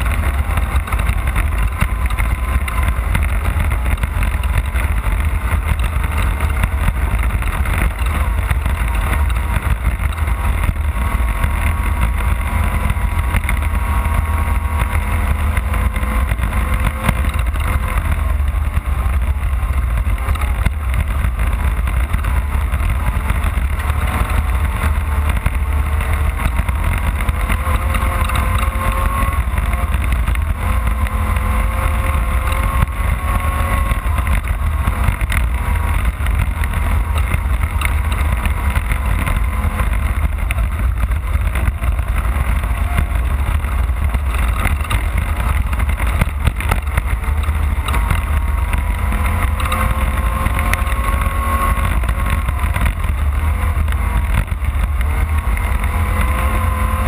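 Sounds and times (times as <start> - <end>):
race car engine running: 0.0 - 57.0
vehicle pounding over rough ground: 0.0 - 57.0.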